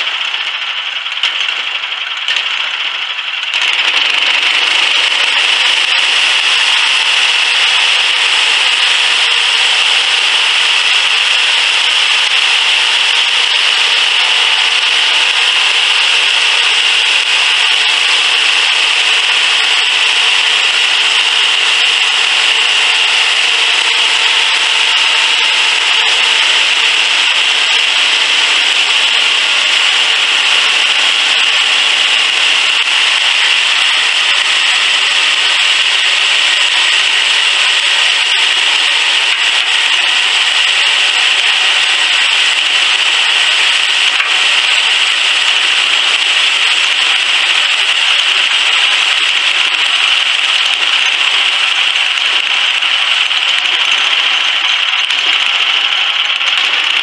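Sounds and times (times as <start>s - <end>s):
bandsaw blade cutting wood: 0.0s - 57.0s
small engine running under load: 0.0s - 57.0s.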